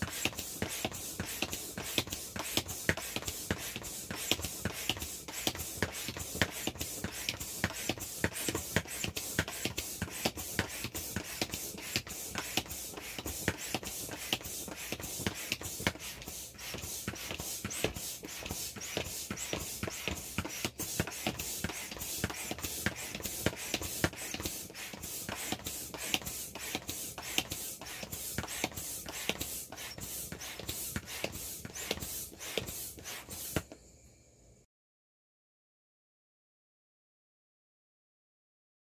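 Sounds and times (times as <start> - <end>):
hand air pump strokes: 0.0 - 33.8.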